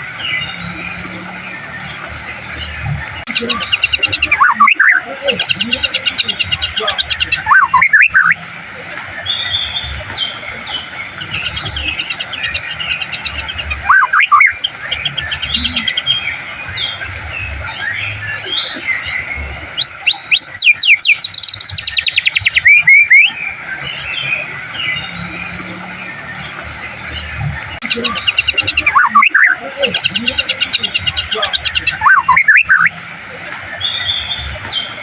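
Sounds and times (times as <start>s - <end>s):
songbird whistles and trills: 0.0s - 35.0s.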